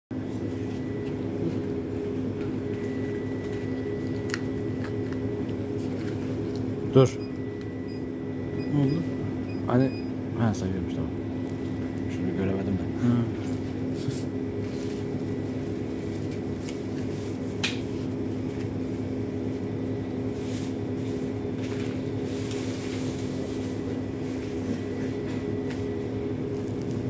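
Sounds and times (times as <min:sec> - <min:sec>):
low mechanical hum: 0:00.1 - 0:27.0.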